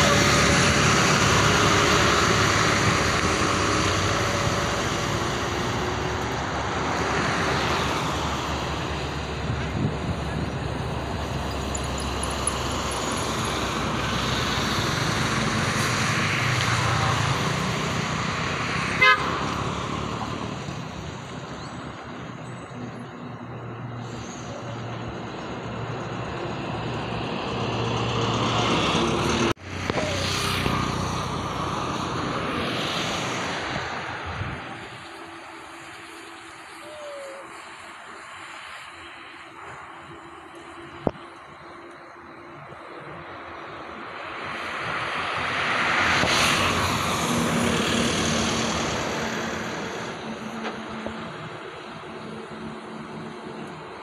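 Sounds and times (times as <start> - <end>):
vehicle passing by: 0.0 - 22.2, 23.2 - 41.1, 42.5 - 53.6
engine drone: 0.0 - 54.0.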